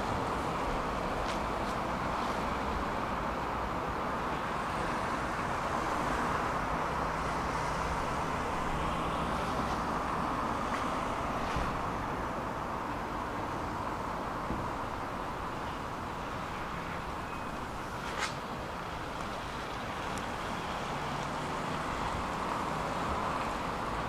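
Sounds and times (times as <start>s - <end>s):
road traffic hiss: 0.0s - 24.0s.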